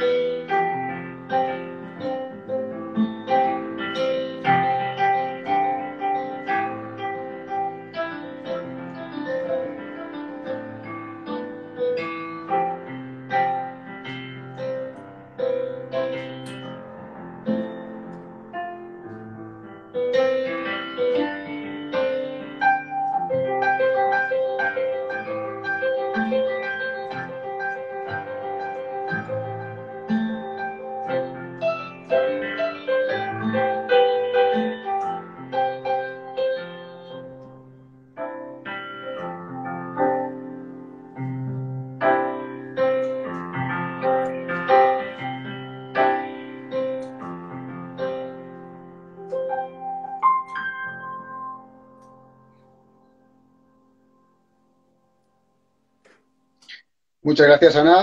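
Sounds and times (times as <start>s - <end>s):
solo piano chords: 0.0s - 56.6s.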